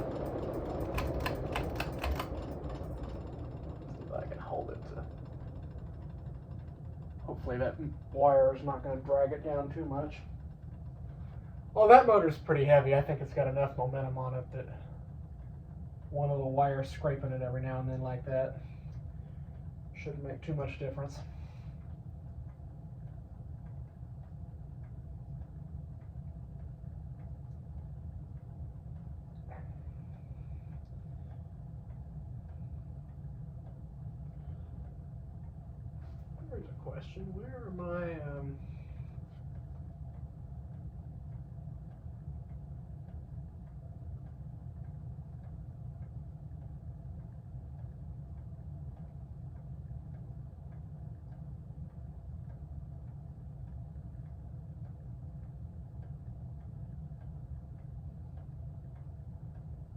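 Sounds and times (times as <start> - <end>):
ceiling fan motor hum: 0.0 - 59.9
loose wire ticking against fan: 0.0 - 59.9
rumble of moving air: 0.0 - 59.9.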